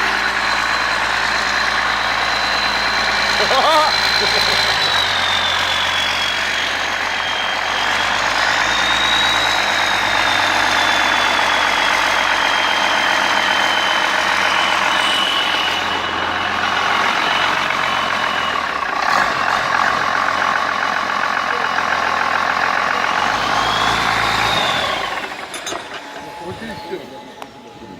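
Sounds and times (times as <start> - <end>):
diesel engine running: 0.0 - 27.9
high turbo whine: 0.0 - 27.9.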